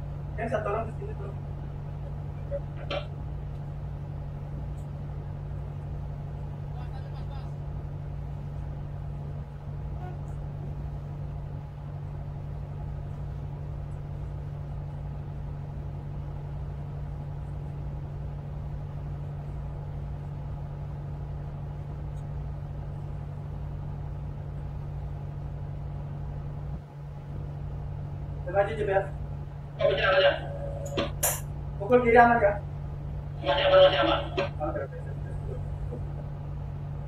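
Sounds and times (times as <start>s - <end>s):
diesel engines droning: 0.0s - 37.0s.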